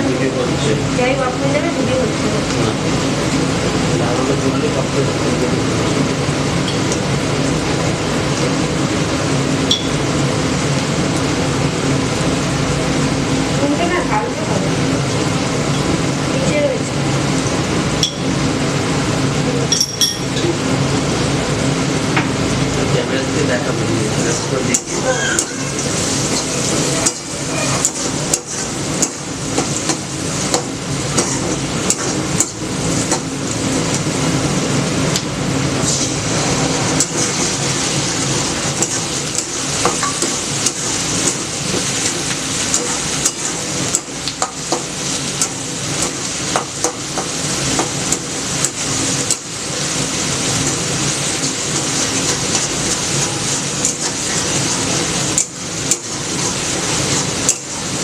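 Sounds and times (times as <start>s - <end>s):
food sizzling in hot oil: 0.5s - 23.4s, 24.1s - 58.0s.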